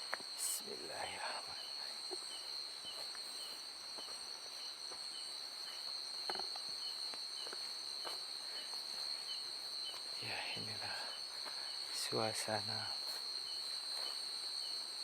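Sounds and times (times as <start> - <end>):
crickets trilling: 0.0 - 15.0
soft insect chirp: 0.0 - 15.0.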